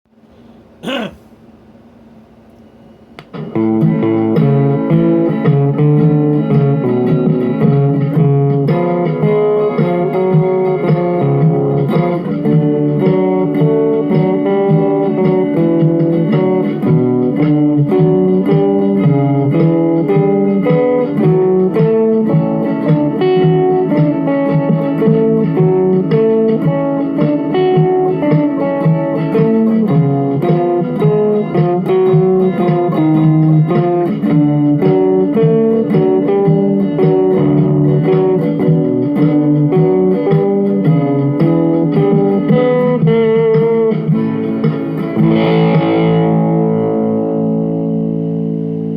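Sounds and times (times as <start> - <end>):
electric guitar melody: 3.2 - 48.9
instrumental rock music: 3.2 - 48.9.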